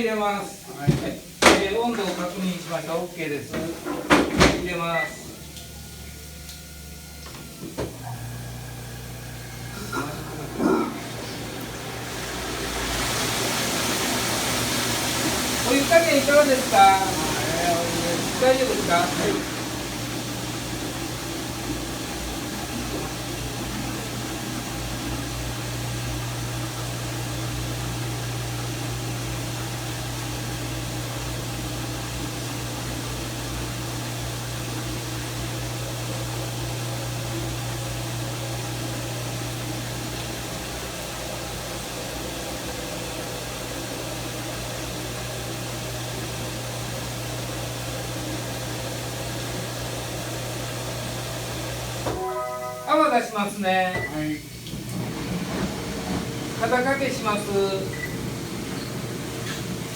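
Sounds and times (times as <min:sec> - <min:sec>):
bathing tub running hiss and hum: 0:00.0 - 0:59.9.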